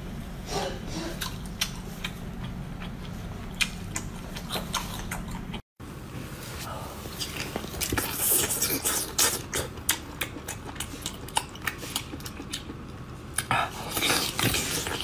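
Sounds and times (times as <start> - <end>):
steady low hum: 0.0 - 15.0
person chewing and lip smacking: 1.1 - 5.6, 7.2 - 15.0.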